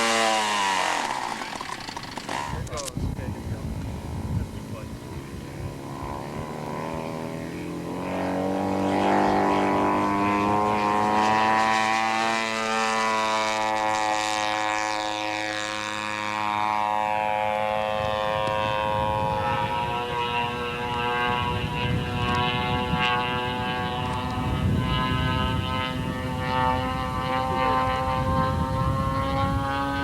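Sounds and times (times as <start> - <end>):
model airplane engine and propeller: 0.0 - 30.0.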